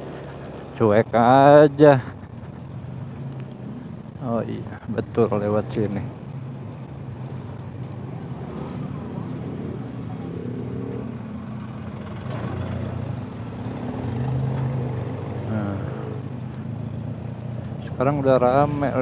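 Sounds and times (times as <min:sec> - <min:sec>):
nearby vehicle engines: 0:00.0 - 0:19.0.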